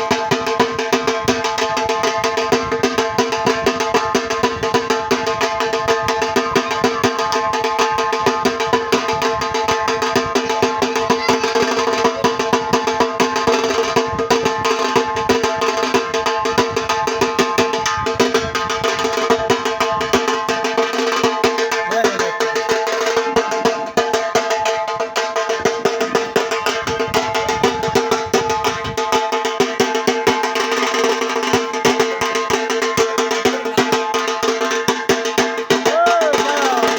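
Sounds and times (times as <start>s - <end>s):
fast dense drumming: 0.0s - 36.9s.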